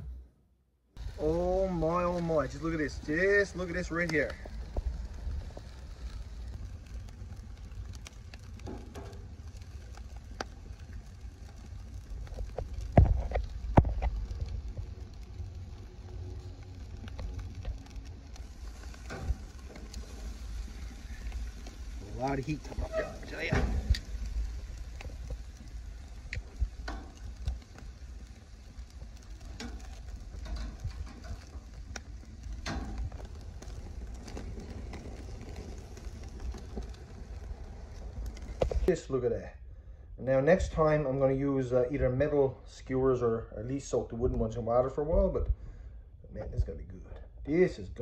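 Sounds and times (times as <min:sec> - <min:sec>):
low steady rumble: 0:00.0 - 0:48.0
charcoal grill crackling: 0:00.9 - 0:48.0.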